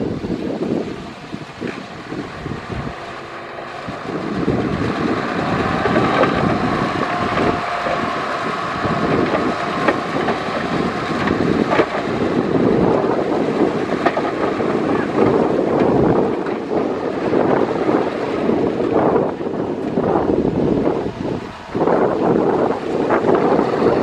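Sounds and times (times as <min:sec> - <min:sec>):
diesel machinery engine: 0:00.0 - 0:24.0.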